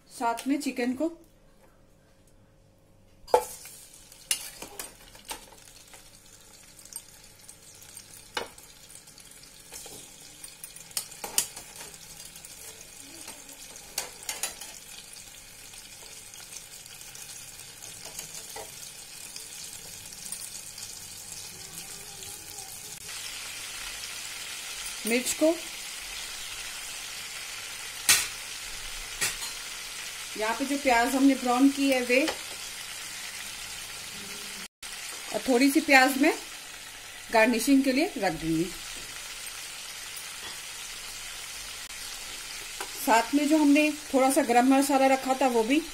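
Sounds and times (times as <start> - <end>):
chicken sizzling in hot oil: 3.4 - 45.9.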